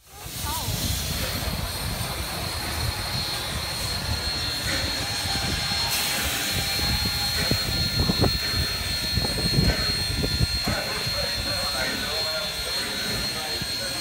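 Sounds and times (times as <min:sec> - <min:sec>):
locomotive rumble: 0:00.0 - 0:14.0
steam hissing: 0:00.0 - 0:14.0.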